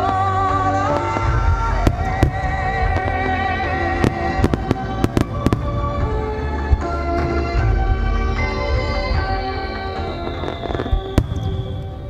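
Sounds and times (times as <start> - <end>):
fireworks bangs and crackles: 0.0 - 12.0
loud music: 0.0 - 12.0.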